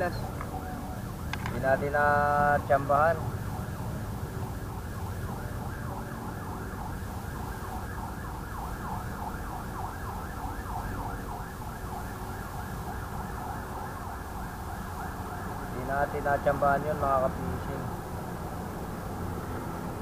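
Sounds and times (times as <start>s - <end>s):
emergency siren yelping: 0.0s - 20.0s.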